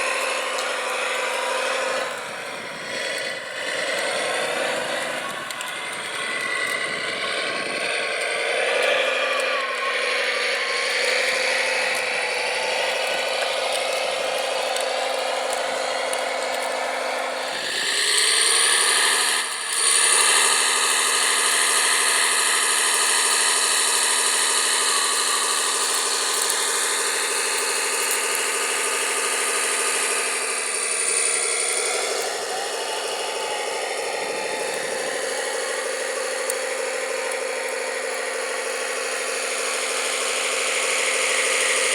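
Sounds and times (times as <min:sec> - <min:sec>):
electric motors whining: 0:00.0 - 0:41.9.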